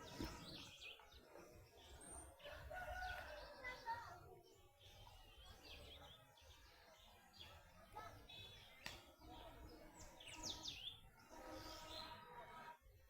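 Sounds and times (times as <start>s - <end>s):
birds chirping: 0.0s - 12.5s.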